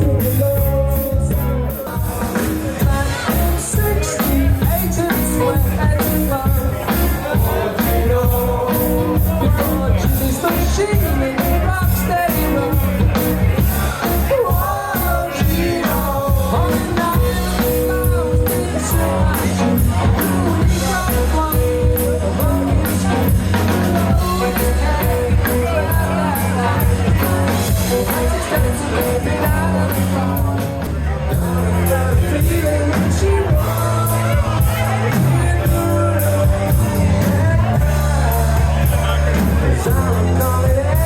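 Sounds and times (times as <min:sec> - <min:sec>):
bass guitar: 0:00.0 - 0:41.0
electric guitars: 0:00.0 - 0:41.0
rock band playing through speakers: 0:00.0 - 0:41.0
steady drum beat: 0:00.0 - 0:41.0.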